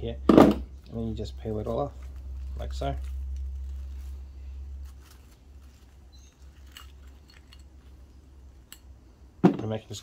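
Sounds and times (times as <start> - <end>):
low steady hum: 0.0 - 10.0
faint rustling of wire: 0.8 - 9.4.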